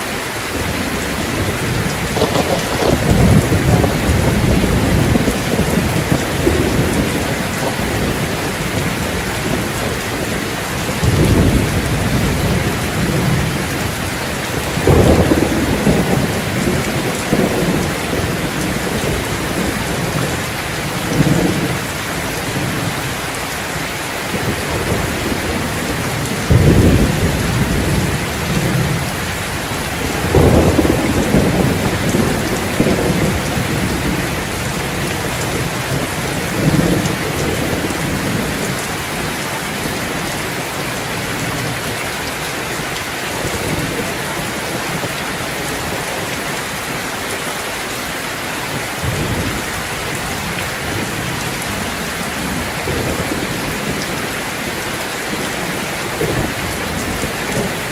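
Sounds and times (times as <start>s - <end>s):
thunder rumbling: 0.0s - 23.3s, 24.3s - 47.0s, 48.6s - 57.9s
steady rain: 0.0s - 57.9s.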